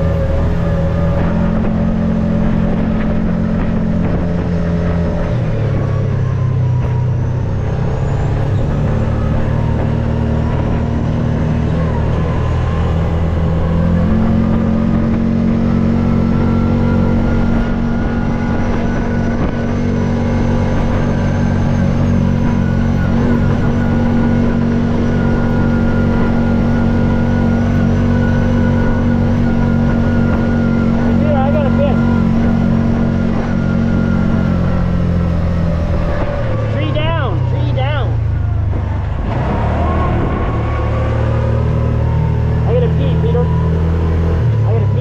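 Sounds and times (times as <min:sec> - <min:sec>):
off-road vehicle engine running: 0:00.0 - 0:45.0.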